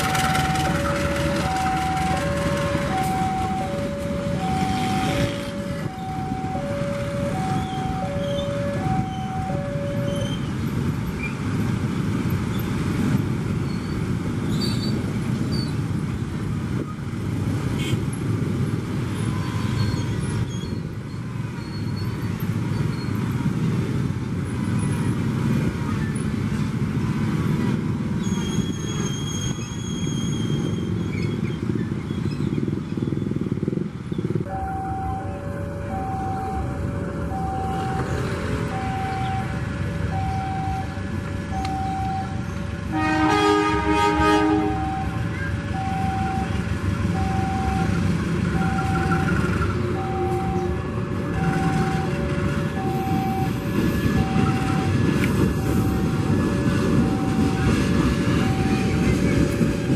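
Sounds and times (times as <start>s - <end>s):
locomotive rumbling past: 0.0s - 59.9s
road traffic idling: 0.0s - 59.9s.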